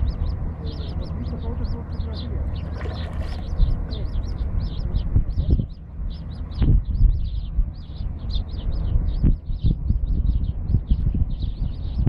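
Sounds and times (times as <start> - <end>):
bird chirping rapidly: 0.0 - 12.0
low rumble: 0.0 - 12.0.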